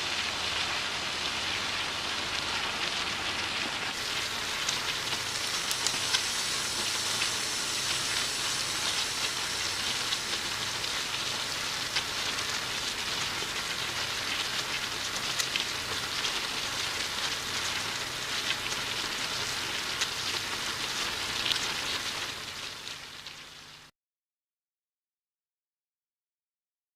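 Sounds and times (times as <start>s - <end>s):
food frying in hot oil: 0.0s - 23.9s
oil popping and crackling: 1.2s - 23.6s.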